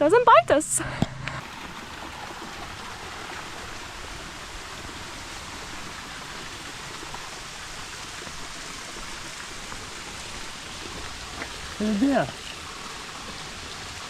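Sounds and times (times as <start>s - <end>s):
running water rushing: 1.4s - 14.0s.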